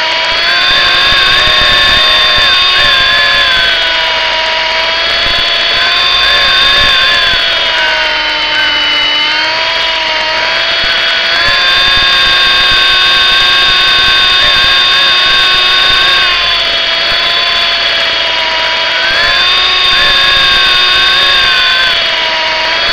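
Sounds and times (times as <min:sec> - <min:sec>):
toy helicopter motor whine: 0:00.0 - 0:22.9.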